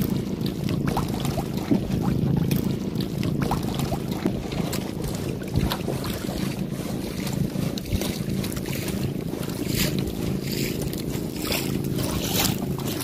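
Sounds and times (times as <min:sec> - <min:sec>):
boat engine running: 0:00.0 - 0:13.0
water splashes: 0:00.0 - 0:13.0
wind on microphone: 0:00.0 - 0:13.0.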